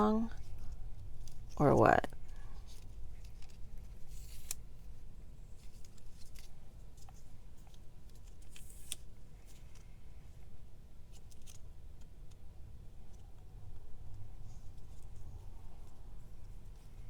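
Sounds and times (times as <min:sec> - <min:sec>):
label tape rustling: 0:00.0 - 0:10.2, 0:10.9 - 0:17.0.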